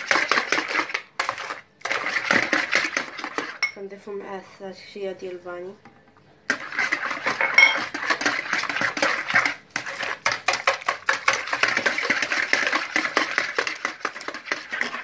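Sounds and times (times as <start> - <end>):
whisk beating batter in bowl: 0.0 - 4.6, 6.5 - 15.0.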